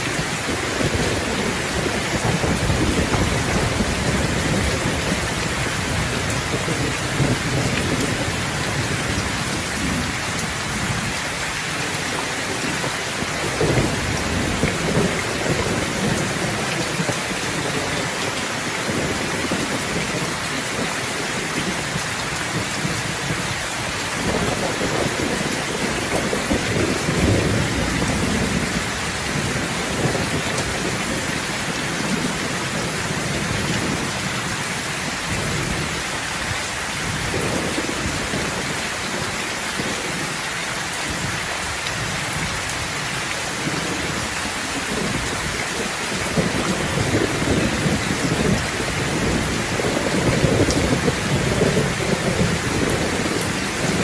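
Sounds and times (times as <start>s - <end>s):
thunder rumbling: 0.0s - 40.4s, 41.1s - 54.0s
heavy rain hissing: 0.0s - 54.0s.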